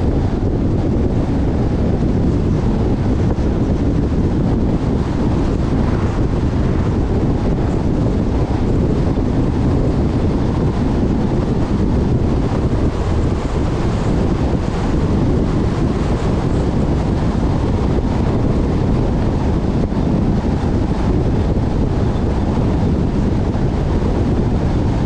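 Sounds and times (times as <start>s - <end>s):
car road noise rumble: 0.0s - 25.0s
wind buffeting microphone: 0.0s - 25.0s.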